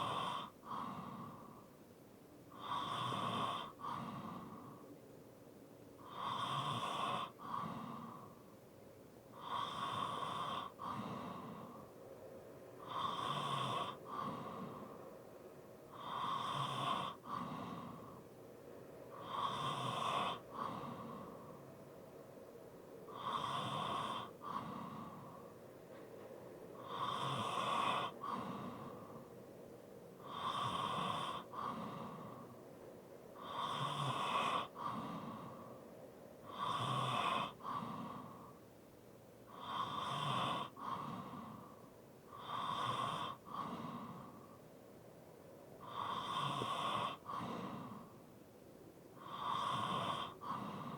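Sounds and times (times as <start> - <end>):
heavy breathing with light snoring: 0.0 - 5.0, 6.0 - 8.6, 9.3 - 12.0, 12.8 - 15.2, 15.8 - 22.2, 23.1 - 29.5, 30.2 - 38.8, 39.4 - 44.9, 45.6 - 50.9.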